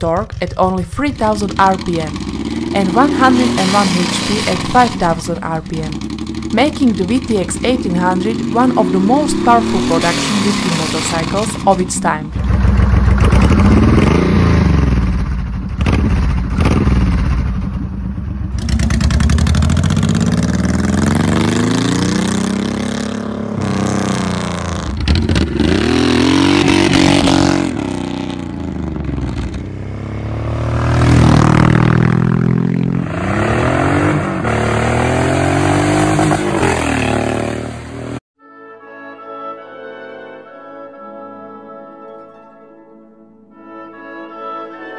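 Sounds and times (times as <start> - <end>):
motorcycle engine revving: 0.0 - 38.2.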